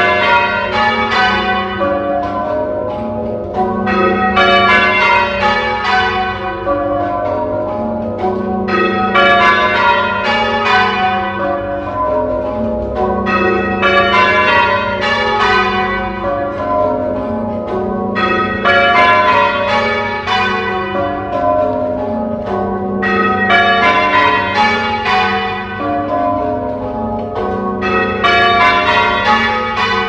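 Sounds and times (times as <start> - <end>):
church bells change ringing: 0.0 - 30.0.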